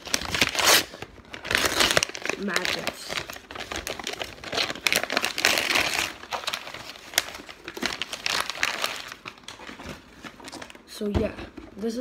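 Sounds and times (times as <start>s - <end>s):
wrapping paper crumpling: 0.0s - 10.9s.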